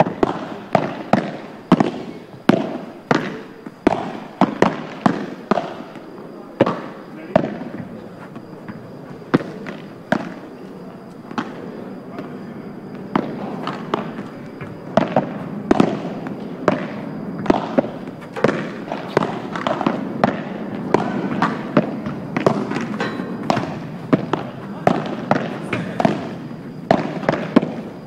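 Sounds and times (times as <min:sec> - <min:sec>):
balls struck with paddles: 0:00.0 - 0:10.6, 0:11.2 - 0:28.0
balls bouncing on court: 0:00.0 - 0:28.0.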